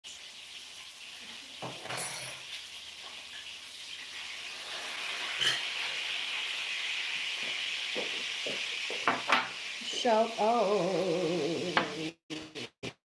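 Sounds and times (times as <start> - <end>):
food frying sizzle: 0.0 - 12.7.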